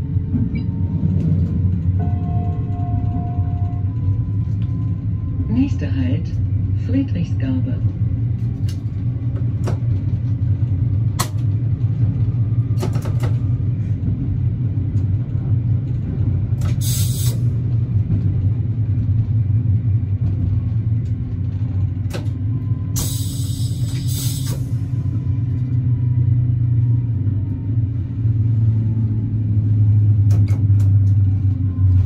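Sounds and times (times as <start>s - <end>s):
railcar engine and wheels rumbling: 0.0s - 32.0s.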